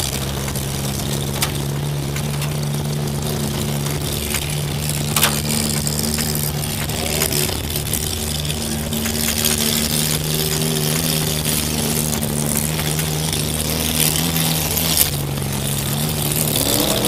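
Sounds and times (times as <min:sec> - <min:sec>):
car engine running: 0:00.0 - 0:17.0
constant hiss: 0:00.0 - 0:17.0.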